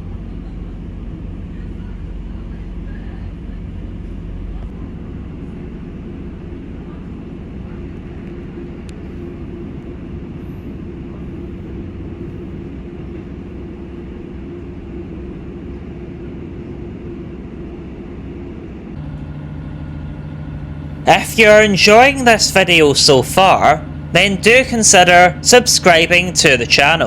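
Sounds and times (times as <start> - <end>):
diesel engine drone: 0.0 - 27.0
train wheel and rail noise: 0.0 - 27.0.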